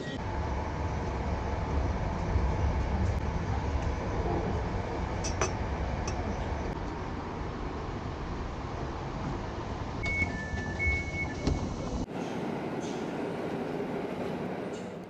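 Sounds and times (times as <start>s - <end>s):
hollow underground platform ambience: 0.0s - 15.0s
train rumbling from inside carriage: 0.0s - 15.0s.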